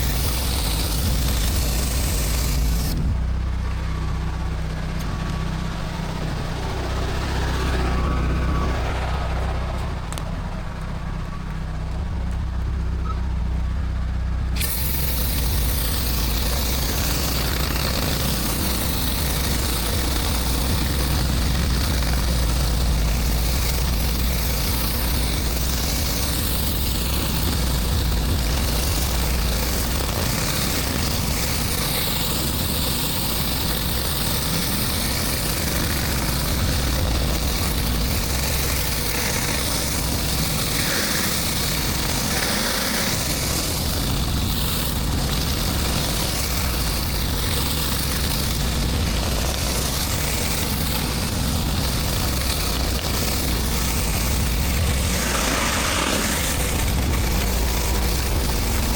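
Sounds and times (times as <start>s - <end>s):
high-pressure water spray hissing: 0.0s - 3.2s, 14.6s - 58.9s
engine running with low hum: 0.0s - 58.9s.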